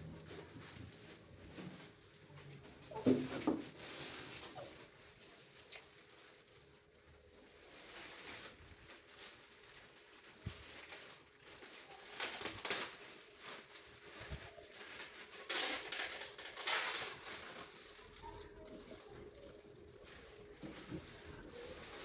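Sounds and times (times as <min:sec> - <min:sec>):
packaging rustling and crinkling: 0:00.0 - 0:22.0.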